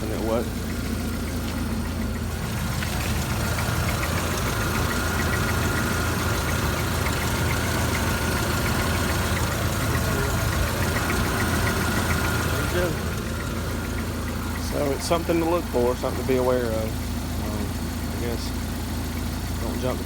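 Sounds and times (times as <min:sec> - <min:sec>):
engine idling: 0:00.0 - 0:20.0
faint regular ticking: 0:00.0 - 0:20.0.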